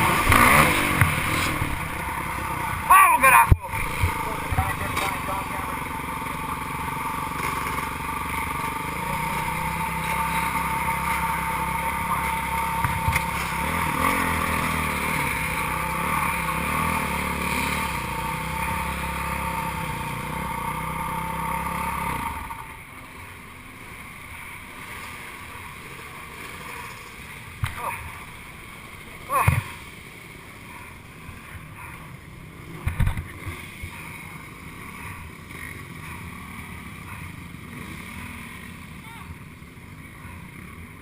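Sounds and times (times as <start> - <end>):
dirt bike engines racing: 0.0 - 41.0.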